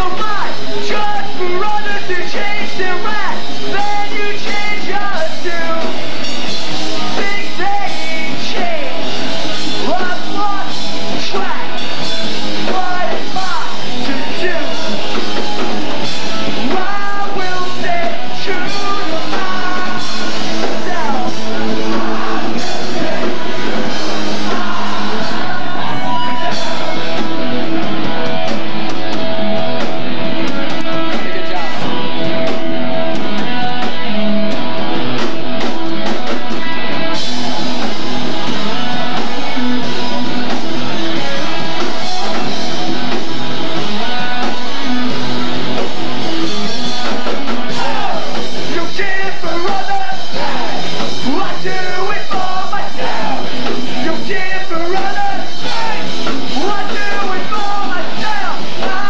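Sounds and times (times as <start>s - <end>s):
punk band playing: 0.0s - 59.0s
shouted lead vocals: 0.0s - 59.0s.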